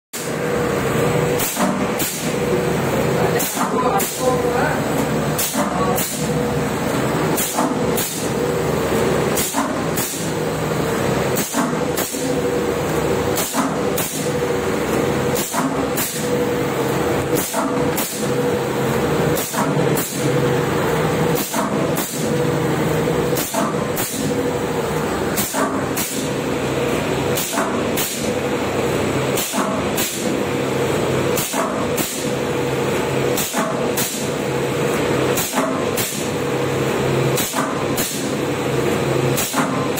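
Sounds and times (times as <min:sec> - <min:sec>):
machine humming: 0:00.2 - 0:39.9.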